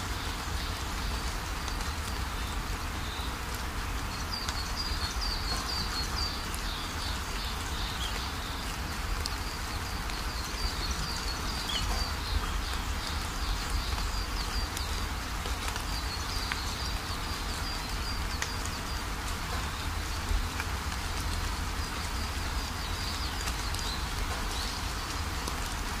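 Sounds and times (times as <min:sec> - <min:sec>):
steady rain-like hiss: 0:00.0 - 0:26.0.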